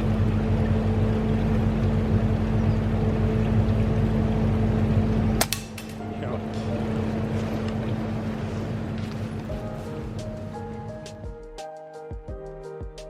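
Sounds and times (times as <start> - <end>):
mechanical hum: 0.0 - 11.3
steady low rumble: 0.0 - 11.5.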